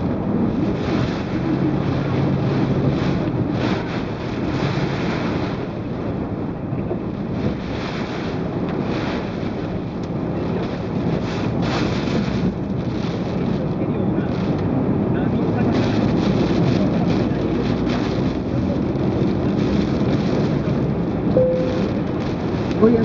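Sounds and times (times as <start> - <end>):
low vehicle hum: 0.0 - 23.0
strong wind gusting on microphone: 0.0 - 23.0.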